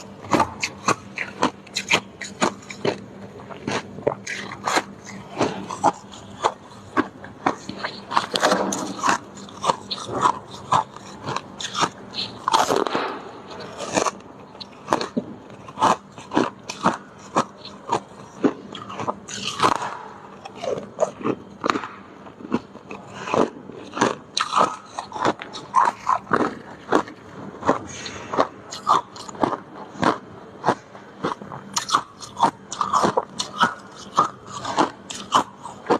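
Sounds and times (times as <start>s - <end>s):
icicles being chewed: 0.0s - 35.9s.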